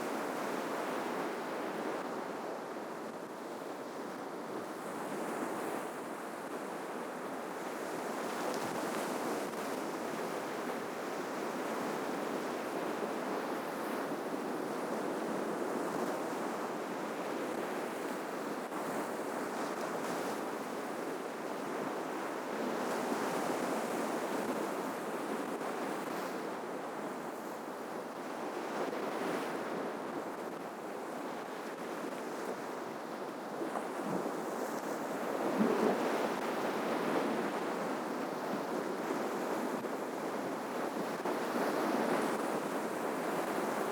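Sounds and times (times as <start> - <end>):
ocean waves breaking on shore: 0.0 - 43.9.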